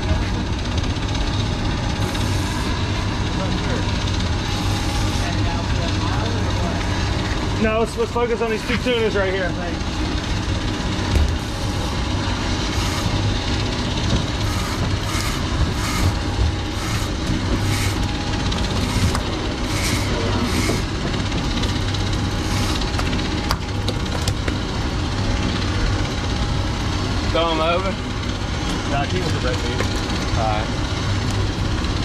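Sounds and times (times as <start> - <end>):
outboard engines idling: 0.0 - 32.0.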